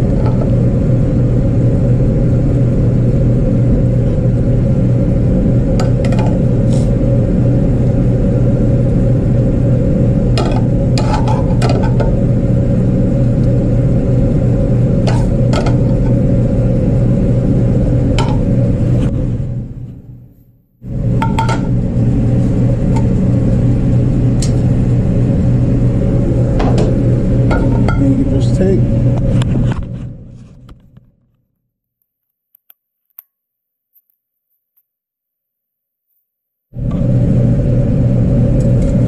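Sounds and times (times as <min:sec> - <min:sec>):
low mechanical drone: 0:00.0 - 0:31.4, 0:36.7 - 0:39.0.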